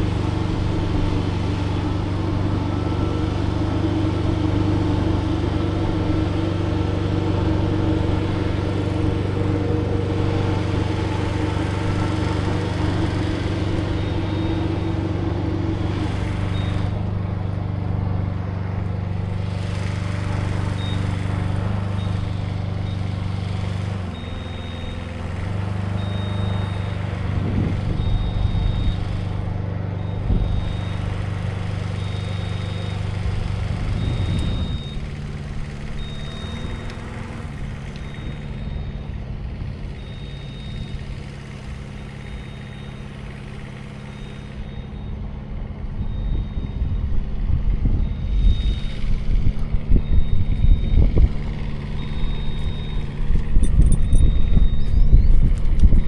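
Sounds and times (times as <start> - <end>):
heavy equipment engine running: 0.0 - 56.0
high-pitched alarm beep: 0.3 - 17.9, 19.3 - 56.0.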